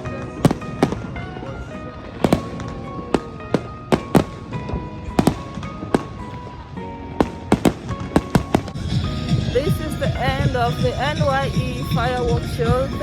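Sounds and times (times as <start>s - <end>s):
fireworks exploding: 0.0s - 13.0s
music with long held notes: 0.0s - 13.0s.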